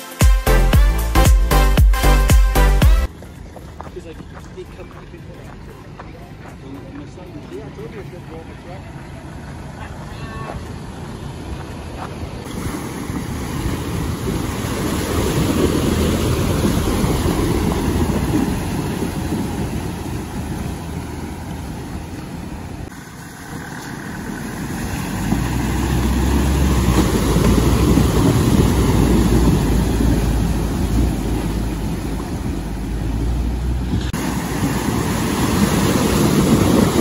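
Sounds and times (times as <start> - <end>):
vehicle engine driving: 3.0 - 37.0.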